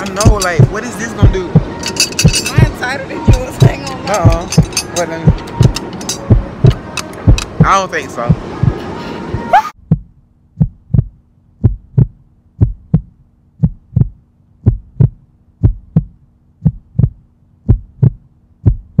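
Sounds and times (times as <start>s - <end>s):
faint steady hum: 0.0s - 19.0s
heartbeat thumps: 0.1s - 19.0s.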